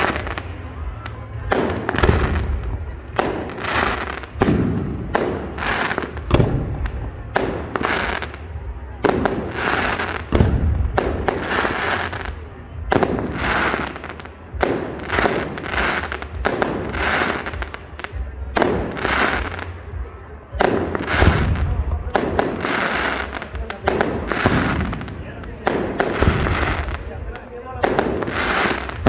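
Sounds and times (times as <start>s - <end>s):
aerial fireworks bangs and crackling: 0.0s - 29.0s.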